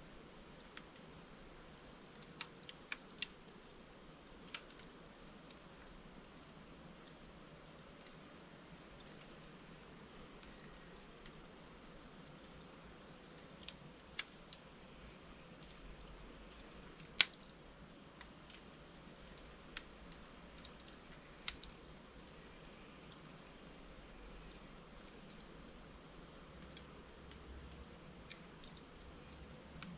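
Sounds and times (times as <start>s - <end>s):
logs crackling in fireplace: 0.0s - 29.9s
soft fire hiss: 0.0s - 29.9s.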